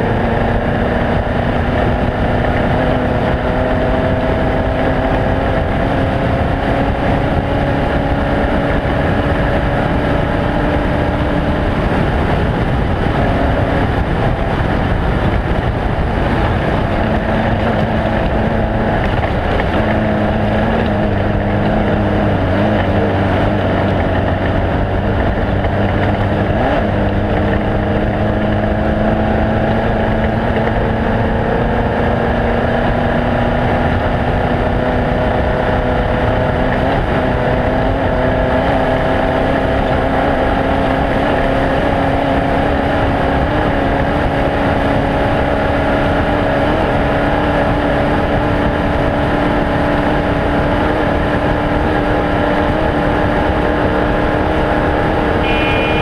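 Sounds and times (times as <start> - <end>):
vehicle engine running hard: 0.0 - 56.0.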